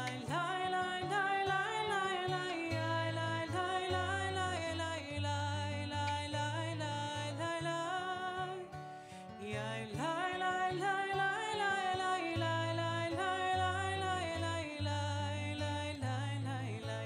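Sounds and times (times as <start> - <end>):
acoustic guitar: 0.0 - 17.0
person singing: 0.0 - 17.0.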